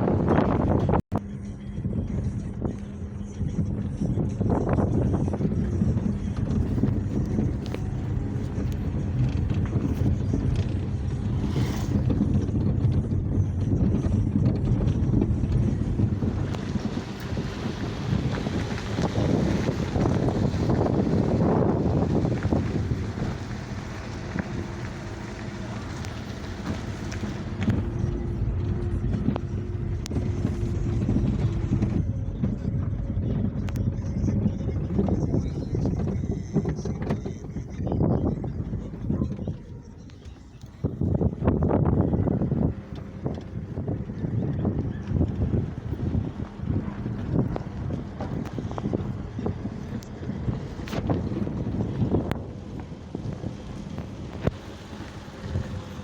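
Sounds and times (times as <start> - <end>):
wind buffeting microphone: 0.0 - 1.0, 1.7 - 56.0
car engine and road rumble: 0.0 - 56.0.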